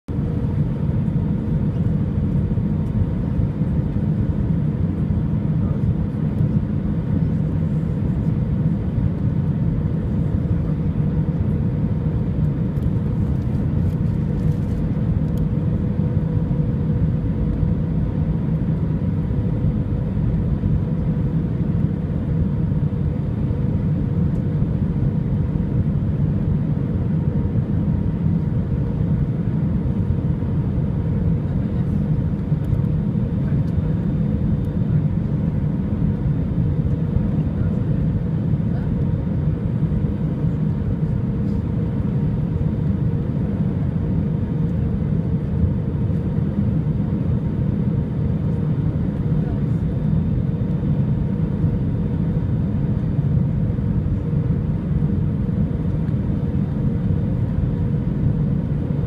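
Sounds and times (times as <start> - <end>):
jet engines rumbling: 0.1 - 59.0.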